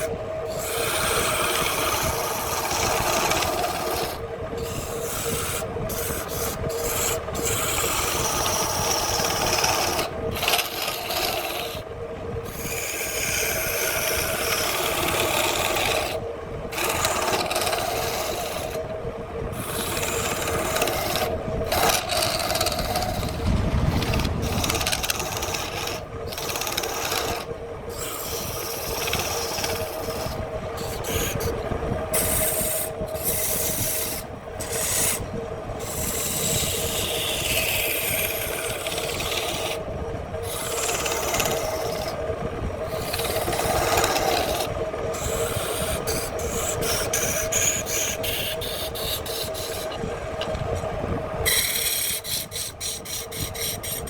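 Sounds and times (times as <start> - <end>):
lathe motor humming: 0.0 - 54.0
tool scraping spinning wood: 0.0 - 54.0.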